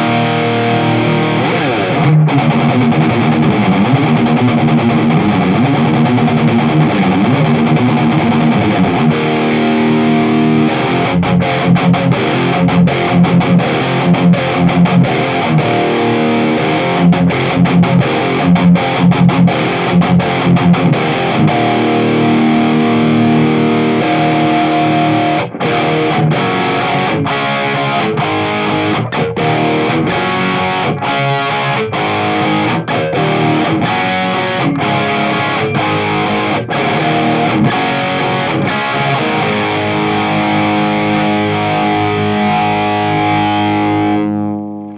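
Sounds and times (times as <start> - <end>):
distorted electric guitar riffs: 0.0 - 44.9.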